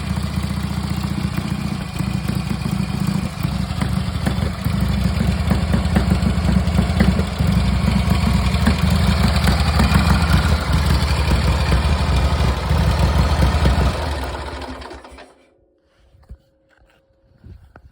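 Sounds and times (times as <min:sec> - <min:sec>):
motorcycle engine idling: 0:00.0 - 0:15.4.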